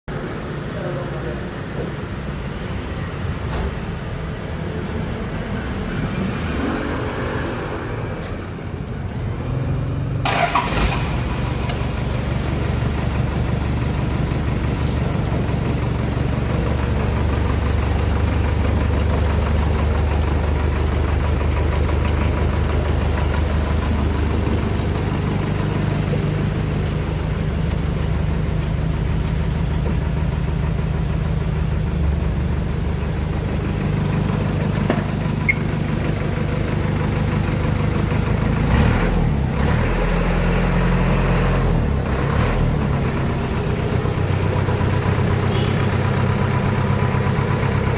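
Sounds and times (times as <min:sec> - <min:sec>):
diesel truck engine running: 0:00.1 - 0:47.9.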